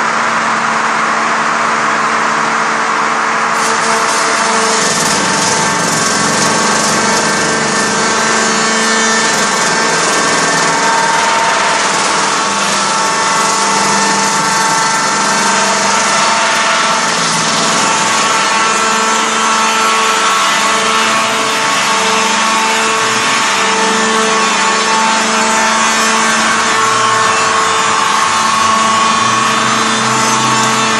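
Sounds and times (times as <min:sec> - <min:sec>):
circular saws cutting log: 0:03.6 - 0:30.9.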